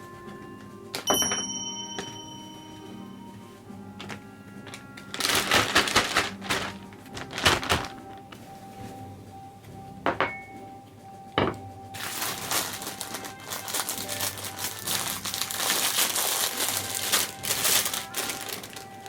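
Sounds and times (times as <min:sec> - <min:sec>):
quiet background music: 0:00.0 - 0:19.0
rustling and crinkling: 0:02.0 - 0:19.0.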